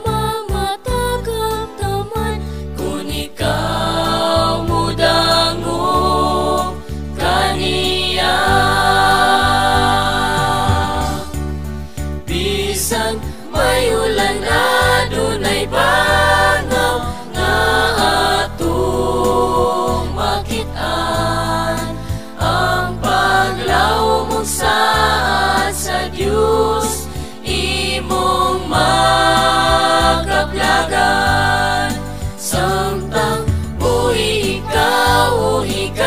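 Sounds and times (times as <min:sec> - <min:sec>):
instrumental backing with bass: 0:00.0 - 0:36.0
vocal group singing in harmony: 0:00.0 - 0:36.0.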